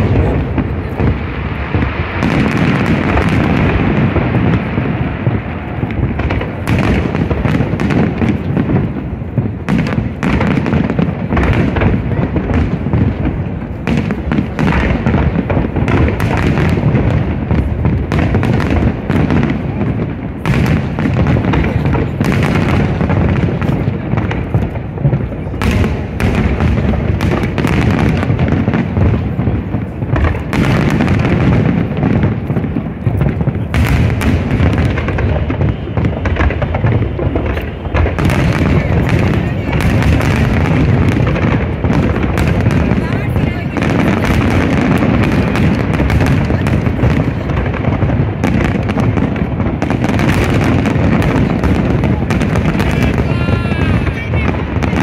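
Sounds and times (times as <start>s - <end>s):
firework cracks and bangs: 0.0s - 55.0s.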